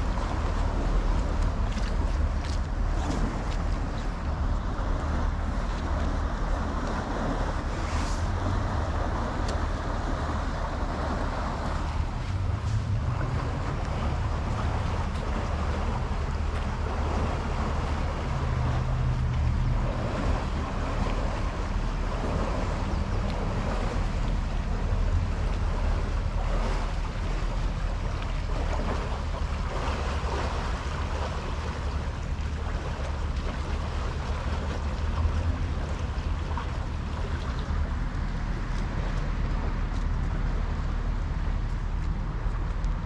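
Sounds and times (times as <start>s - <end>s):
low rumble: 0.0s - 43.0s
water rushing: 0.0s - 43.0s
wind buffeting microphone: 0.0s - 43.0s.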